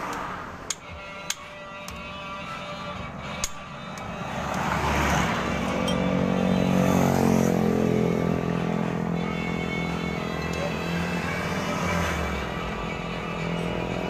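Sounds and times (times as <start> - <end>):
motor vehicle engine running: 0.0 - 14.0.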